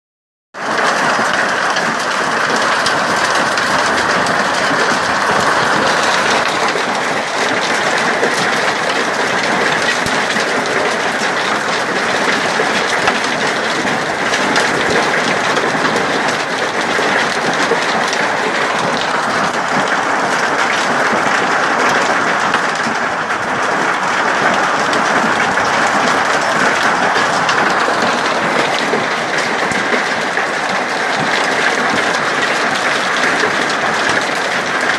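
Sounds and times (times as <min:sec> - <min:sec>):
hailstones clattering: 0:00.6 - 0:34.9.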